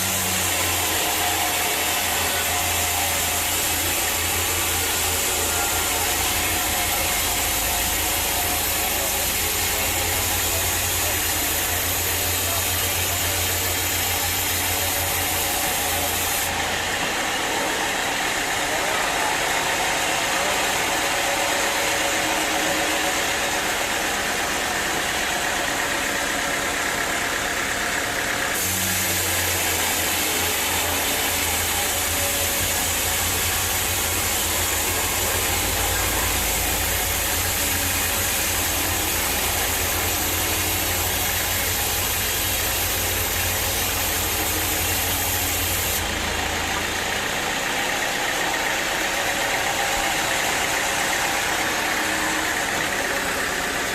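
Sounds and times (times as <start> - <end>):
deep engine hum: 0.0 - 53.9
sawmill machinery running: 0.0 - 53.9.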